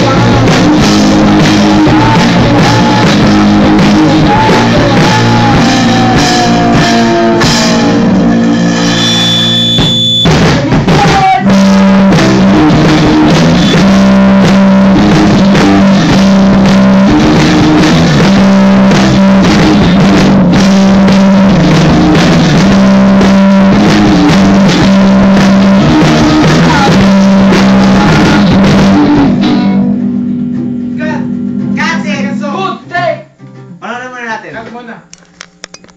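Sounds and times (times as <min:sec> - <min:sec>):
rock band playing loud: 0:00.0 - 0:33.9.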